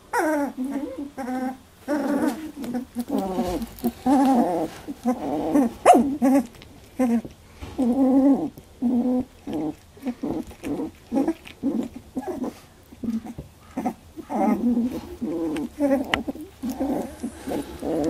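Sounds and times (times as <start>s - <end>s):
puppies whimpering and grumbling: 0.0s - 18.0s.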